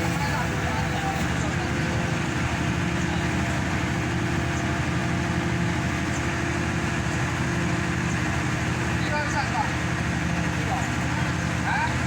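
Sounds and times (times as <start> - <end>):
pile driver engine humming: 0.0 - 12.0.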